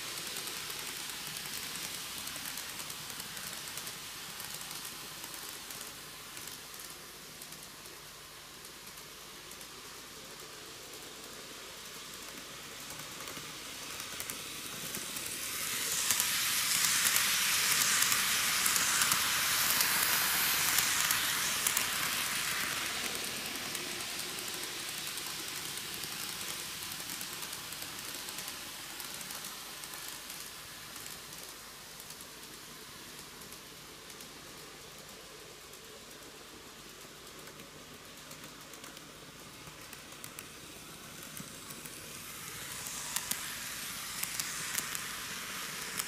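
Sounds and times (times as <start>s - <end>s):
model train running: 0.0s - 46.0s.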